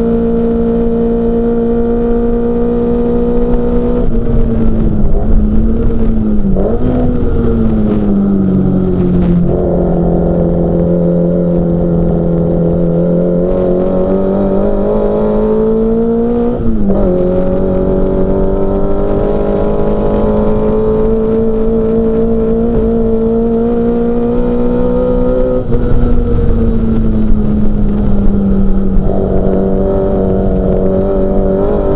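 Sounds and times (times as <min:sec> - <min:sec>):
race car engine revving hard: 0:00.0 - 0:31.9.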